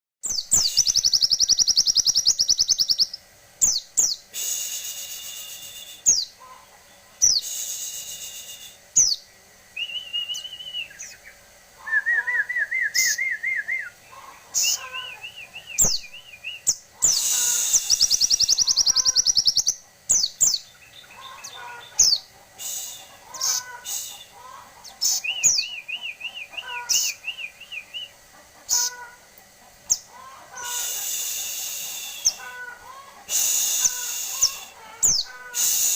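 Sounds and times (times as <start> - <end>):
sunbird singing trills: 0.2 - 35.9.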